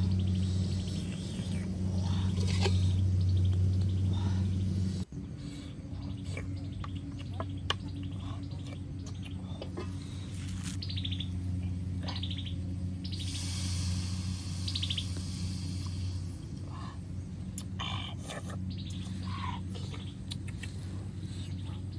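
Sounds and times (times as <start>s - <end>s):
birds singing trills: 0.0s - 21.9s
low hum: 0.0s - 21.9s.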